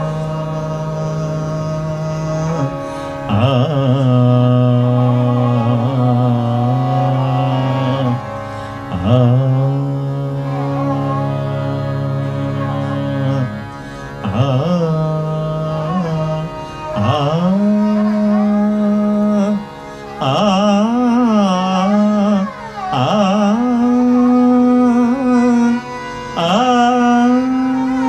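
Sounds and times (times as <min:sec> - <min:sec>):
man singing devotional song: 0:00.0 - 0:28.0.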